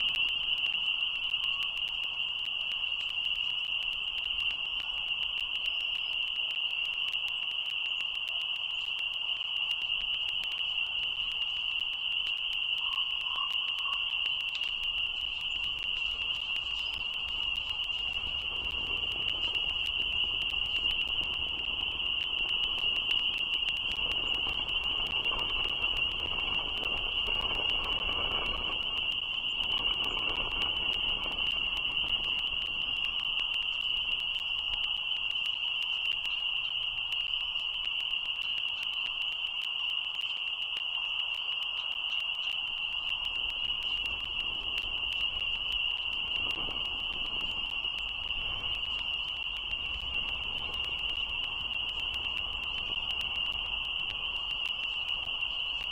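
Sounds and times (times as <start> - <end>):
frogs calling in chorus: 0.0 - 55.9.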